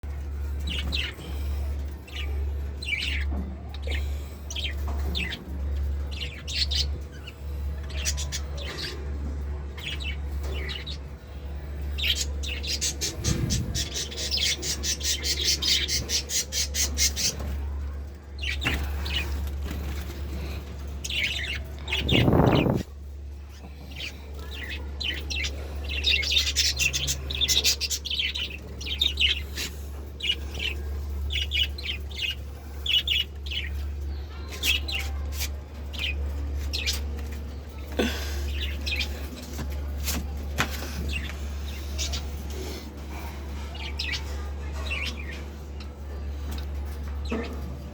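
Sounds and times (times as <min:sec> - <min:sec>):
lovebirds chirping and squawking: 0:00.0 - 0:47.9
steady low hum: 0:00.0 - 0:47.9.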